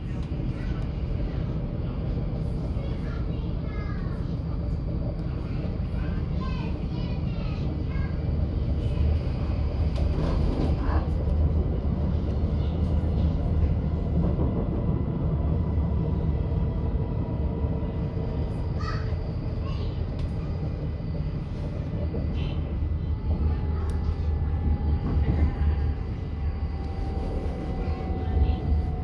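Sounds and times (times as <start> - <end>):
train running rumble: 0.0 - 29.0.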